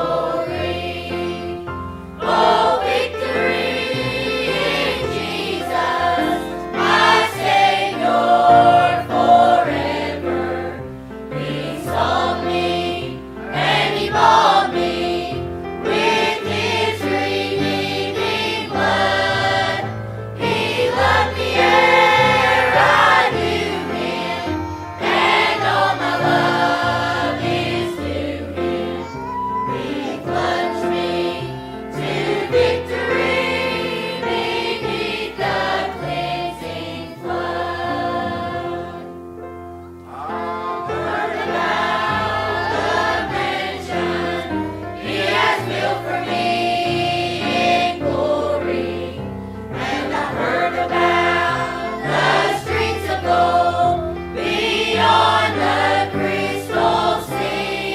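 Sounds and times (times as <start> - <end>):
choir singing a hymn: 0.0 - 57.9.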